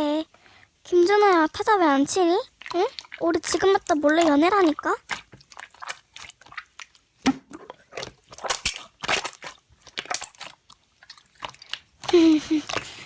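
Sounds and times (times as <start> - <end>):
slime squished by hand: 1.0 - 13.0.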